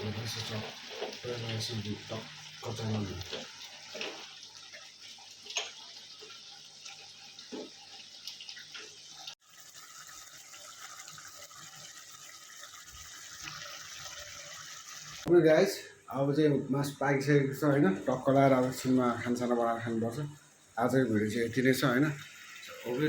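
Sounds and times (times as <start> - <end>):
meat sizzling in a pan: 0.0 - 15.3, 18.1 - 23.0.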